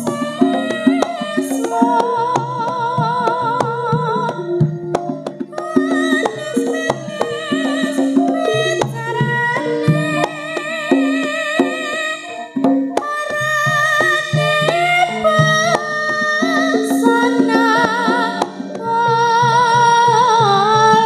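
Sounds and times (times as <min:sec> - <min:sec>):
hand drum percussion: 0:00.0 - 0:21.0
wavering vibrato melody: 0:00.0 - 0:21.0.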